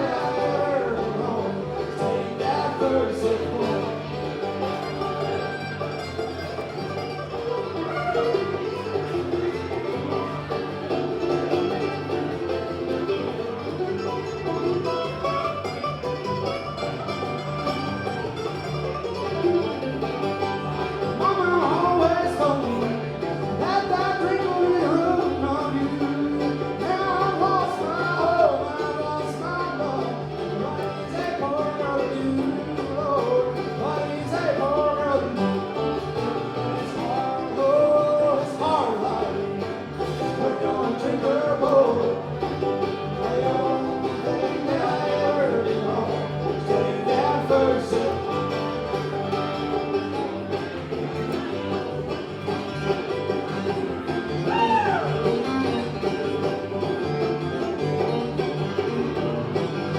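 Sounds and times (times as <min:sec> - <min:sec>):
bluegrass band playing live: 0:00.0 - 0:59.9.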